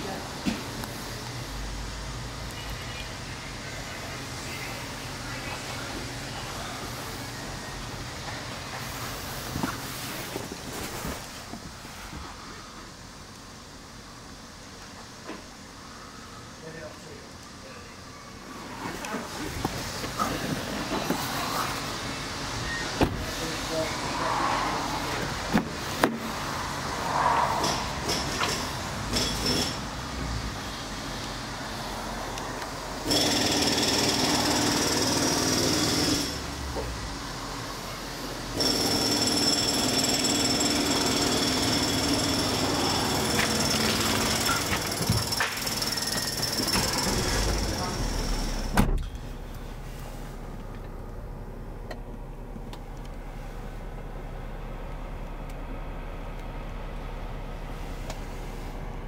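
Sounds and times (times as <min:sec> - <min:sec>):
low hum in car cabin: 0:00.0 - 0:33.0, 0:42.5 - 0:59.0.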